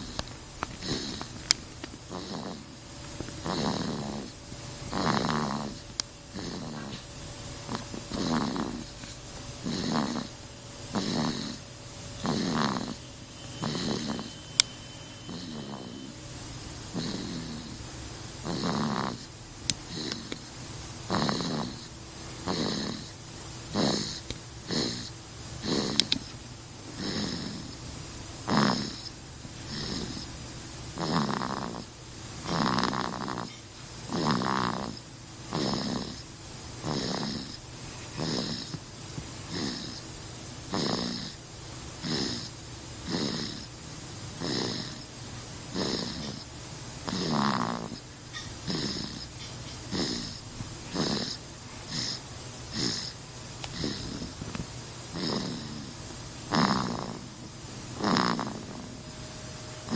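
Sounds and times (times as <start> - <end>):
baby snoring: 0.0 - 1.4, 2.0 - 59.0.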